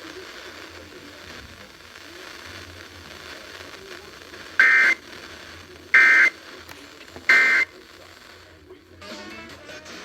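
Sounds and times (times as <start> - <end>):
faint radio hiss: 0.0 - 10.0.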